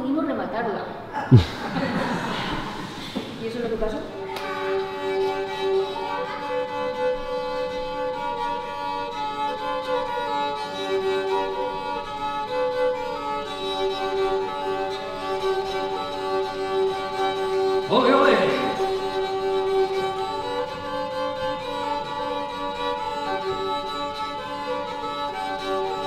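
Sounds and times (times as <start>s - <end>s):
bowed fiddle melody: 3.6s - 26.0s.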